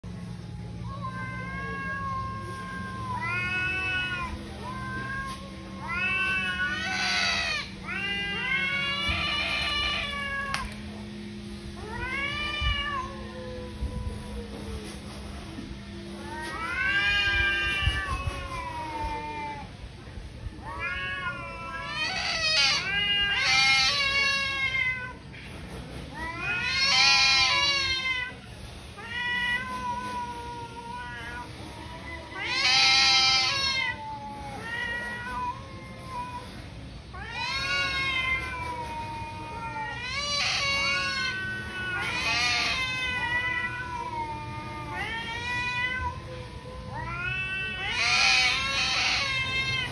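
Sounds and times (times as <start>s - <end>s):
cats yowling: 0.1s - 49.9s.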